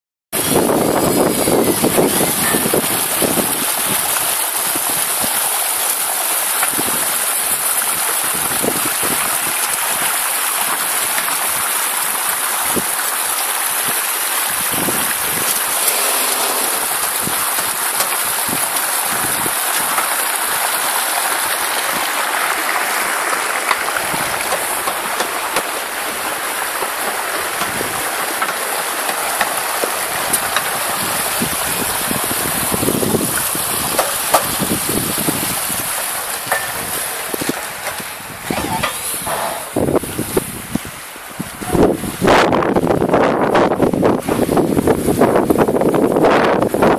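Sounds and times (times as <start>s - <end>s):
water rushing down rocks: 0.4s - 46.9s.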